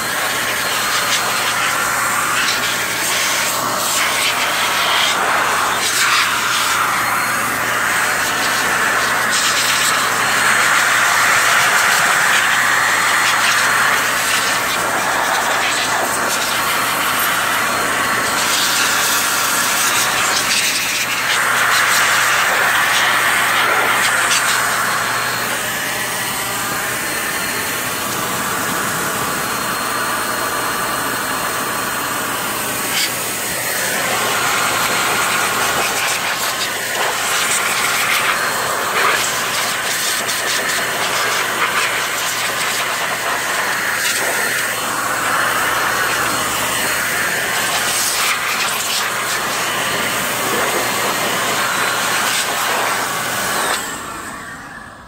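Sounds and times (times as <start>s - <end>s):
electric duster hissing: 0.0s - 55.0s.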